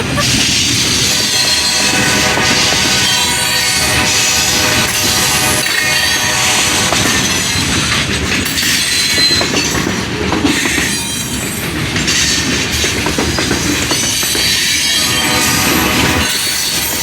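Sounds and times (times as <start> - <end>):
train wheels clacking over rail joints: 0.0 - 17.0.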